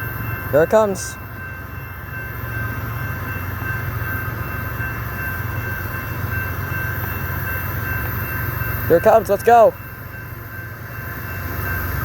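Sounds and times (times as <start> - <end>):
diesel locomotives rumbling: 0.0 - 12.0.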